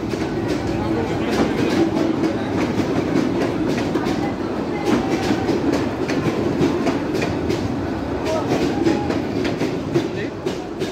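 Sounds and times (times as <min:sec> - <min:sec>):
train coaches rumbling past: 0:00.0 - 0:10.9.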